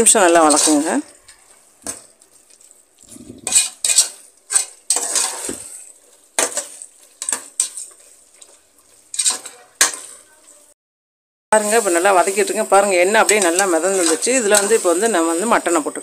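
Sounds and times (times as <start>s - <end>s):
metal ladle scraping a pot: 0.0s - 10.6s, 11.6s - 16.0s
light sizzle: 0.0s - 10.8s, 11.6s - 16.0s.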